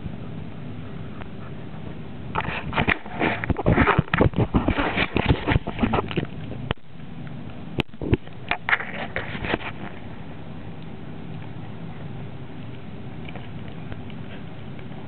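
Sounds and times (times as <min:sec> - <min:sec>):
dog gnawing a bone: 0:00.4 - 0:15.0.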